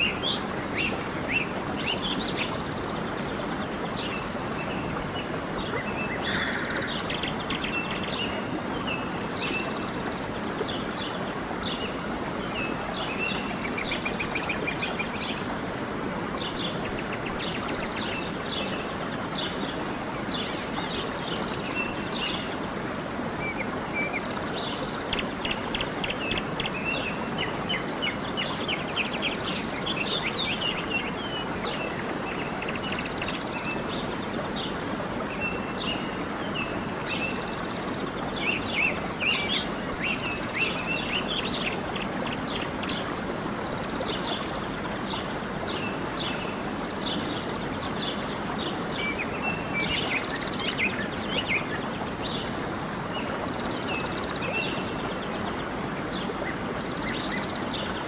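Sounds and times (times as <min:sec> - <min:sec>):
creek running: 0:00.0 - 0:58.0.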